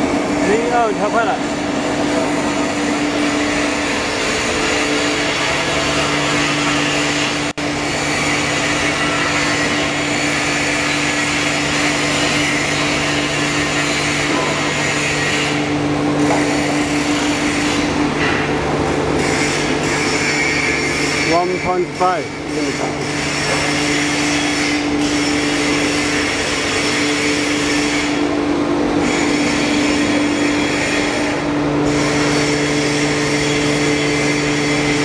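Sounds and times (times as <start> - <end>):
foam-cutting machine motor hum: 0.0 - 35.0.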